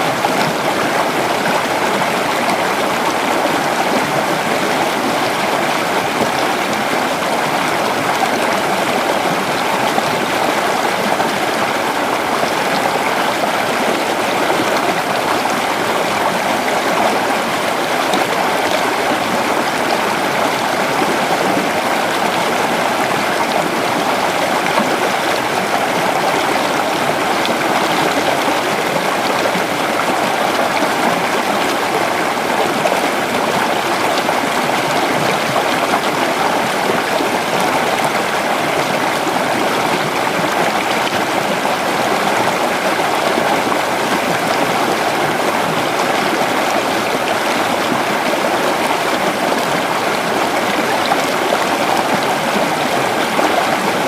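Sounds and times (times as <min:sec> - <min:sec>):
creek flowing over stones: 0:00.0 - 0:54.0.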